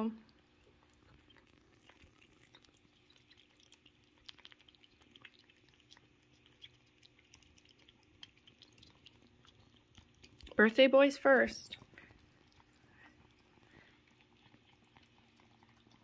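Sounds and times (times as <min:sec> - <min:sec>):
cats chewing and licking: 0:00.0 - 0:16.0.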